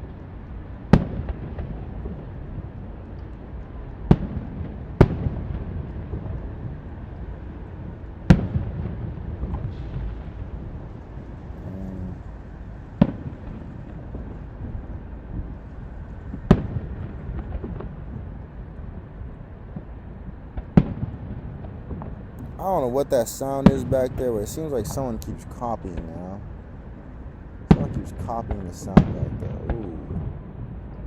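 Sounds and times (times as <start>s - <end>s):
distant fireworks rumble: 0.0s - 31.0s
fireworks booming: 0.0s - 31.0s.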